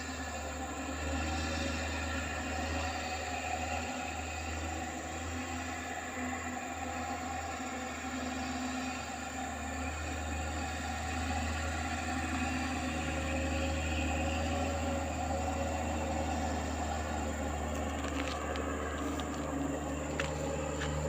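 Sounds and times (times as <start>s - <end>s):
lorry engine running: 0.0s - 21.0s.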